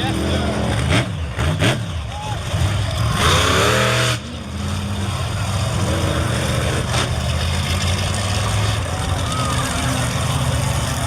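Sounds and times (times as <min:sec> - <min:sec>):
large vehicle engine idling: 0:00.0 - 0:03.3, 0:04.2 - 0:11.0.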